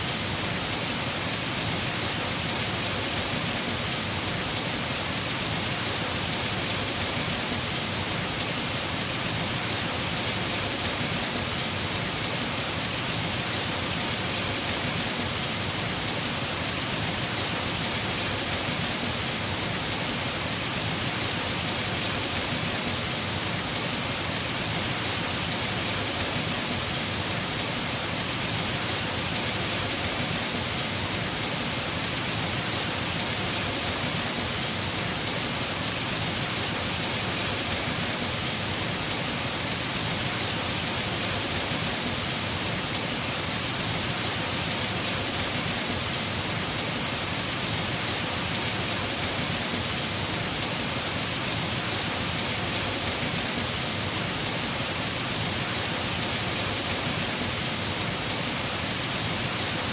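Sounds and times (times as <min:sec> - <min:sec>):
heavy rain on roof: 0:00.0 - 0:59.9.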